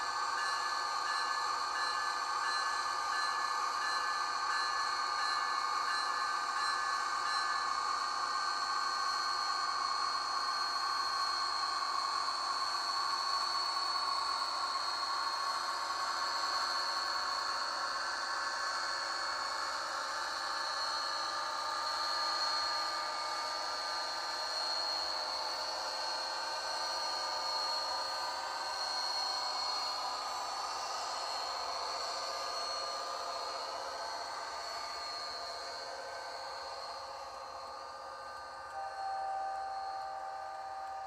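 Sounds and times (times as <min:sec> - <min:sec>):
model train whirring: 0:00.0 - 0:08.8, 0:12.5 - 0:41.0.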